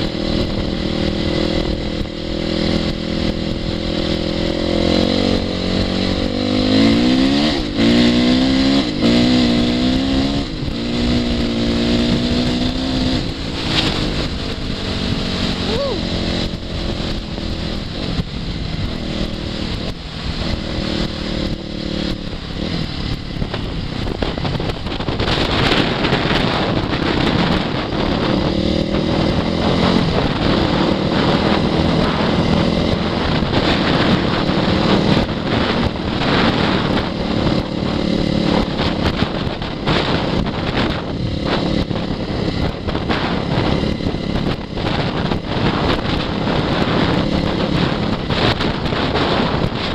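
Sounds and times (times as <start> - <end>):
motorcycle engine revving: 0.0 - 49.9
wind buffeting microphone: 0.0 - 49.9.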